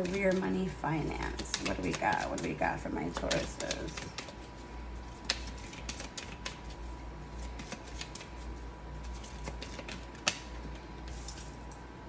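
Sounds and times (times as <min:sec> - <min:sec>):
cards being shuffled: 0:00.0 - 0:00.5, 0:01.2 - 0:11.5.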